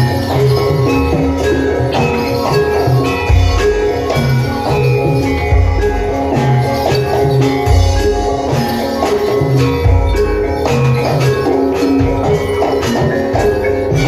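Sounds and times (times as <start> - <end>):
metal percussion melody: 0.0 - 14.0.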